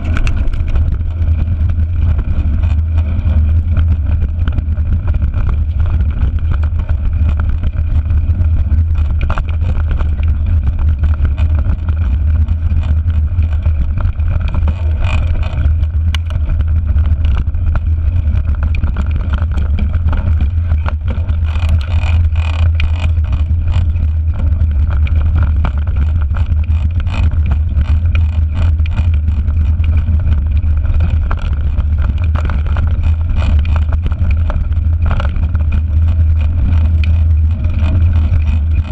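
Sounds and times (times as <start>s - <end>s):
bike rattling over bumps: 0.0s - 38.9s
wind rumble on microphone: 0.0s - 38.9s.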